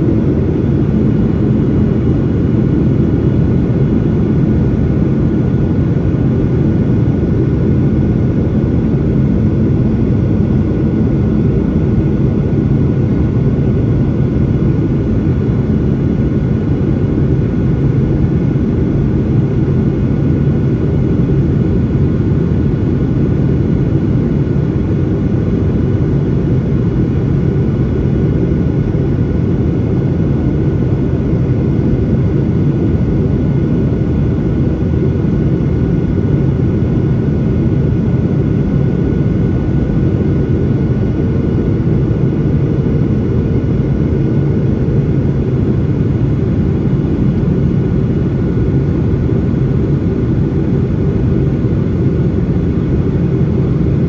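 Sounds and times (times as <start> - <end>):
faint steady whine: 0.0 - 54.0
jet engines droning: 0.0 - 54.0.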